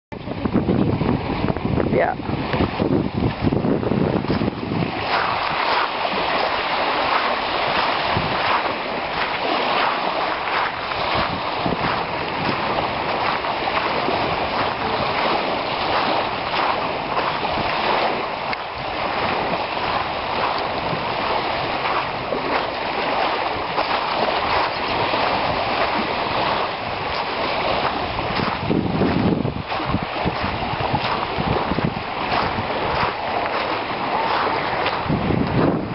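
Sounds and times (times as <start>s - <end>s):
lake waves lapping on gravel shore: 2.0s - 35.9s.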